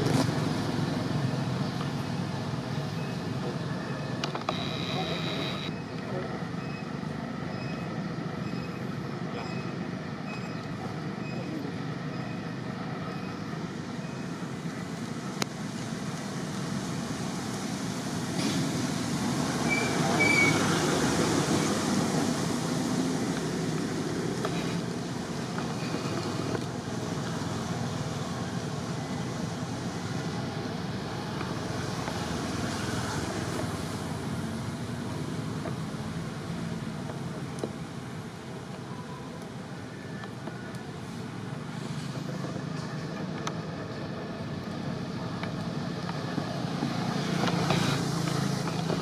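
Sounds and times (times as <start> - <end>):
traffic rumble: 0.0 - 49.0.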